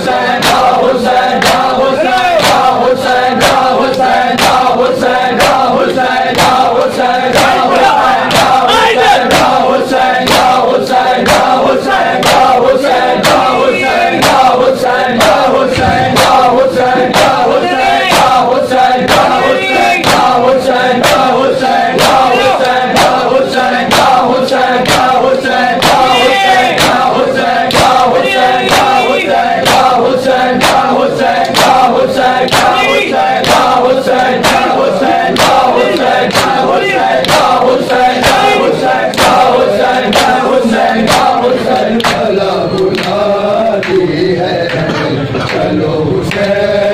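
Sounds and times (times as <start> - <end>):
men chanting in unison: 0.0 - 46.9
hands slapping chests: 0.3 - 26.1, 26.8 - 43.2.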